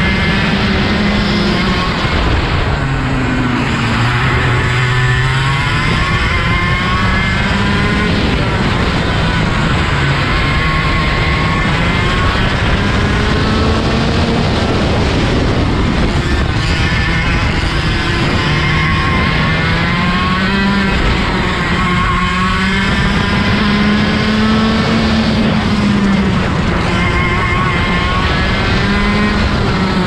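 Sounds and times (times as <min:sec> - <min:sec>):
kart engine revving: 0:00.0 - 0:30.0
wind and road noise: 0:00.0 - 0:30.0.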